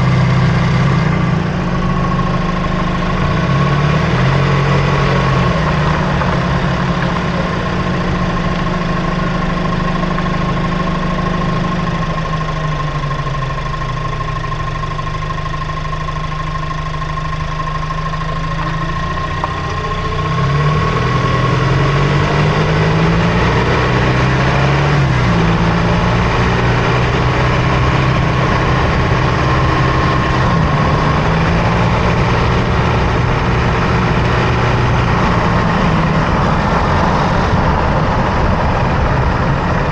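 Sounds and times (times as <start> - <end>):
steady high whine: 0.0 - 39.9
truck engine driving: 0.0 - 39.9.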